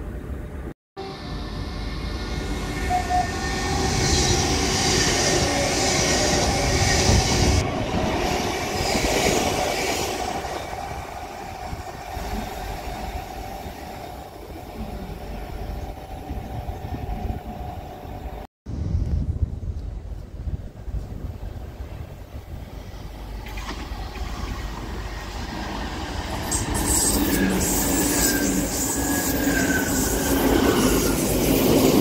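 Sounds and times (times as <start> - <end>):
train wheels rushing on rail: 1.4 - 18.4, 21.1 - 32.0.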